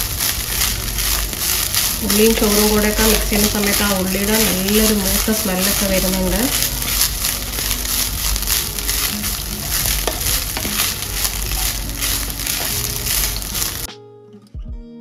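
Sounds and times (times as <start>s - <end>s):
rice sizzling in a pan: 0.0s - 13.9s
wooden spatula scraping a pan: 0.0s - 13.9s
soft background music: 0.0s - 15.0s.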